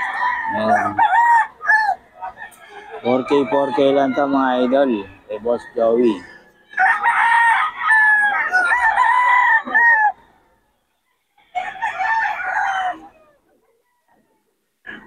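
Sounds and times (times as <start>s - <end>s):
roosters crowing: 0.0s - 10.6s, 11.2s - 13.5s.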